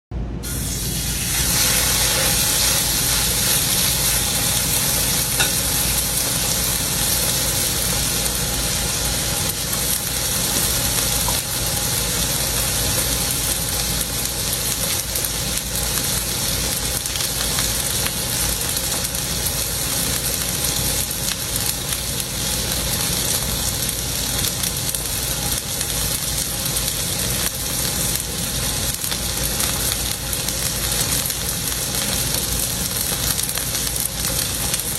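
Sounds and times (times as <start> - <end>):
steak sizzling in a pan: 0.5 - 34.9.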